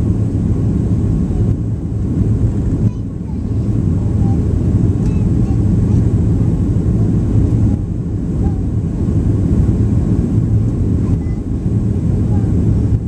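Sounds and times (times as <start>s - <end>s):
rushing air: 0.0s - 2.9s, 3.6s - 13.0s
jet engines roaring: 0.0s - 13.0s.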